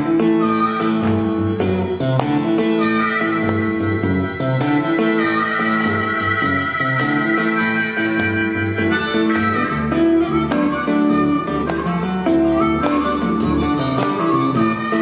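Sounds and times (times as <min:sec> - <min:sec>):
amplified harmonica melody: 0:00.0 - 0:15.0
guitar accompaniment: 0:00.0 - 0:15.0.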